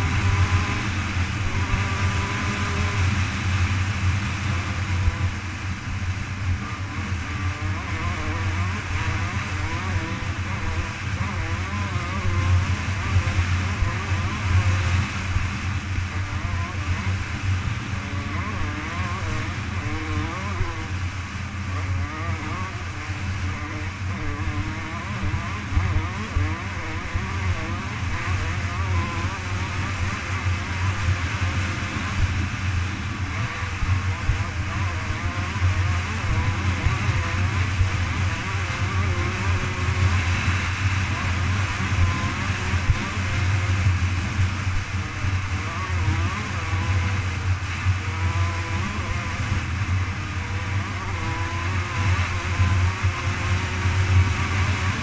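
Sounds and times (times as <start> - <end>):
dirt bike engine running hard: 0.0 - 55.0.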